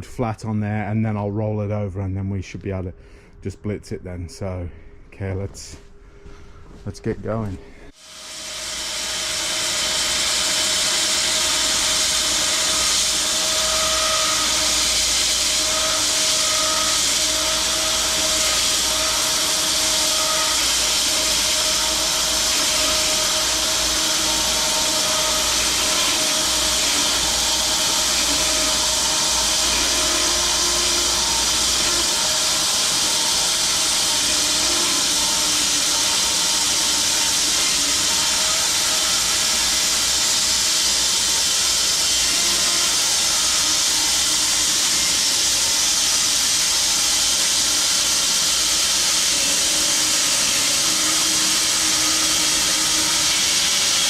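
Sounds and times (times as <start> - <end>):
bandsaw blade sawing wood: 8.0 - 54.0.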